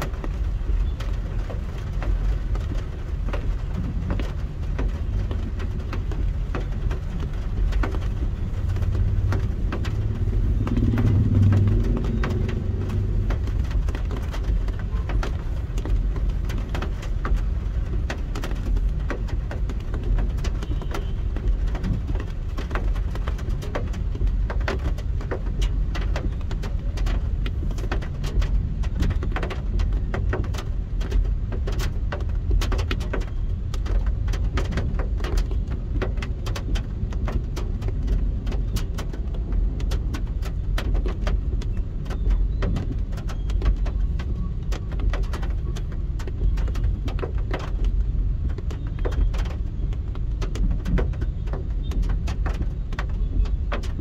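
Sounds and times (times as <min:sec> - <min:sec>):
car rumble from inside cabin: 0:00.0 - 0:54.0
raindrops tapping on car roof: 0:00.0 - 0:54.0.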